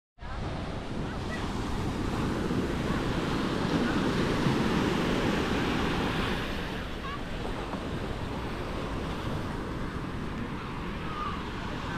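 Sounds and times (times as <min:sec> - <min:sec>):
surf breaking on sand beach: 0:00.3 - 0:11.9.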